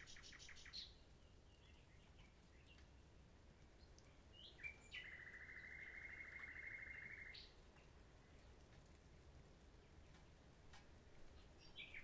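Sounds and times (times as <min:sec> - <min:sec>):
nightingale song: 0:00.0 - 0:08.6, 0:09.8 - 0:12.0.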